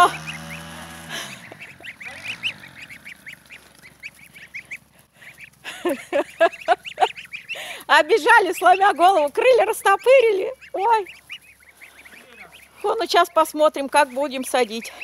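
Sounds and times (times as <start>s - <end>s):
louder lower bird calls: 0.0s - 13.4s, 14.4s - 15.0s
goslings peeping: 0.0s - 15.0s.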